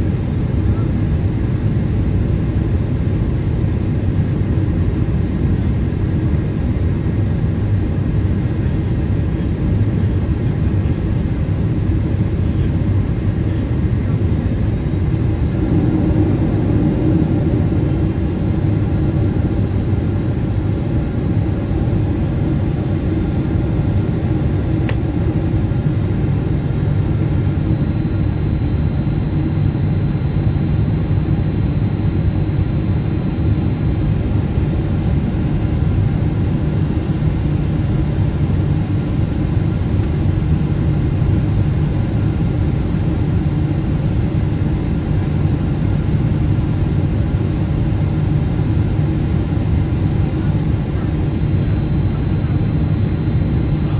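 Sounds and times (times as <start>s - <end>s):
airplane cabin drone: 0.0s - 53.9s.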